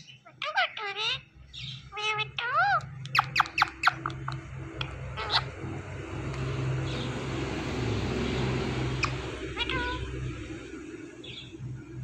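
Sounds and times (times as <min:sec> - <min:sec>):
parakeet squawking: 0:00.0 - 0:11.6
low rumble with hiss: 0:00.0 - 0:12.0.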